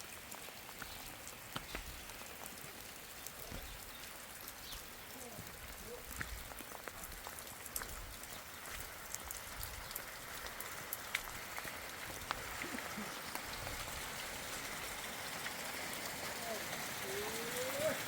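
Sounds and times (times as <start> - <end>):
raindrops clicking and pattering: 0.0 - 18.0
steady rain falling: 0.0 - 18.0.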